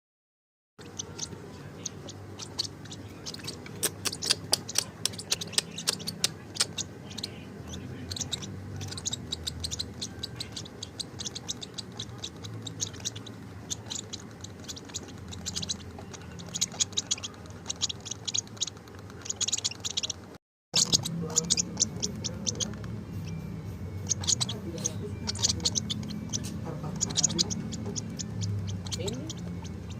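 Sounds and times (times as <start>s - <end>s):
baby bird high-pitched ticks and peeps: 0.8s - 29.9s.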